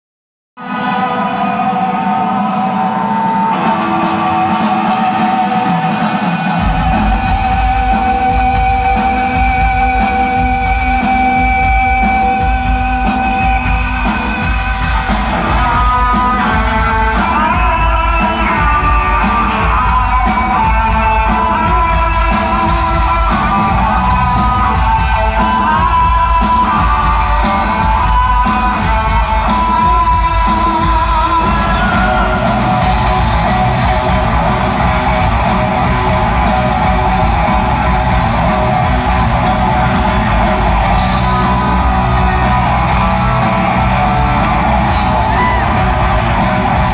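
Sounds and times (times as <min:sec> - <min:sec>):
live rock band playing: 0:00.6 - 0:46.9
man singing lead vocals: 0:00.6 - 0:46.9
sustained guitar or keyboard notes: 0:00.6 - 0:46.9
heavy bass and drums: 0:00.8 - 0:46.9.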